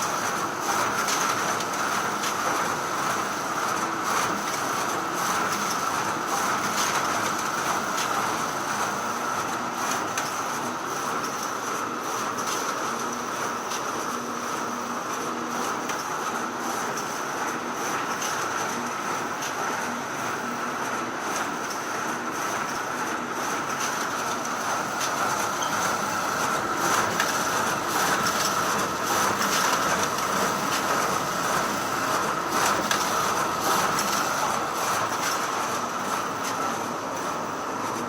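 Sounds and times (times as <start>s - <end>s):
photocopier whirring: 0.0s - 38.0s.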